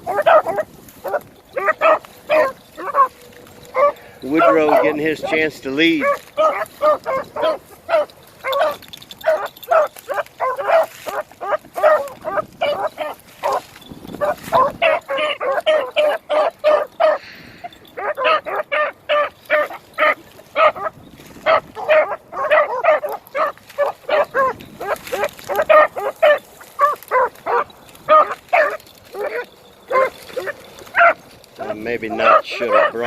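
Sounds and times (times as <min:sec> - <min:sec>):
beagles baying: 0:00.0 - 0:33.0.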